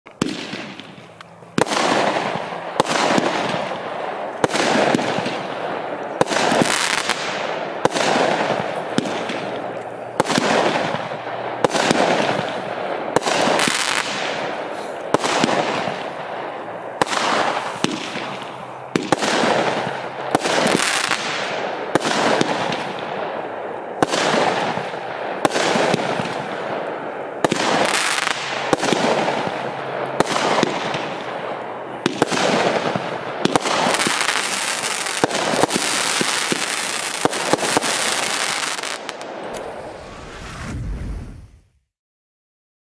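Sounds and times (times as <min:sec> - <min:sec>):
firework cake firing shots: 0:00.2 - 0:01.0, 0:01.6 - 0:03.8, 0:06.2 - 0:16.2, 0:17.0 - 0:23.2, 0:24.0 - 0:26.8, 0:27.4 - 0:41.2.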